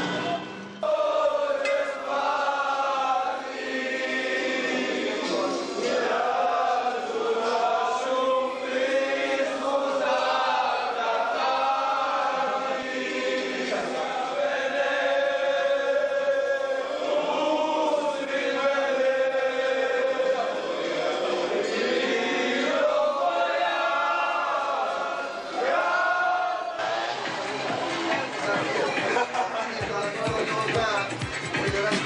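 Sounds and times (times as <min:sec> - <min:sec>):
men singing a chant-like song: 0:00.8 - 0:26.6.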